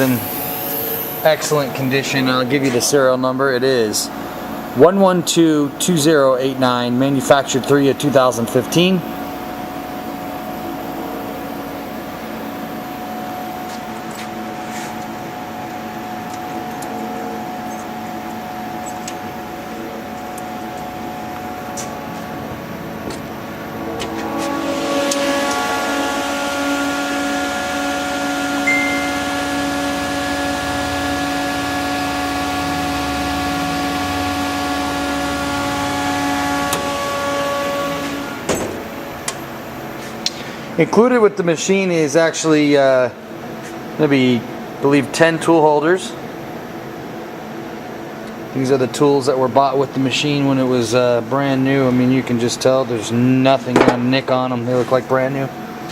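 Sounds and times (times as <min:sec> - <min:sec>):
milling machine hum: 0:00.0 - 0:40.8, 0:49.4 - 0:55.9.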